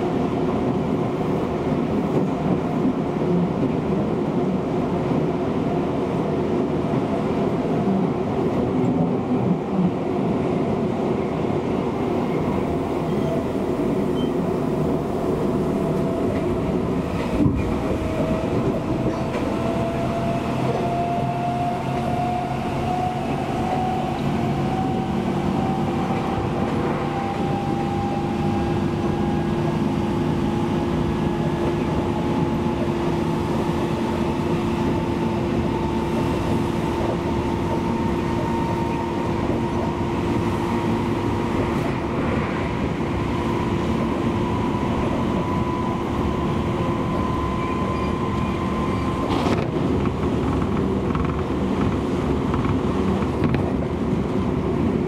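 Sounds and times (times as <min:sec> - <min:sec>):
rail running noise: 0:00.0 - 0:55.0.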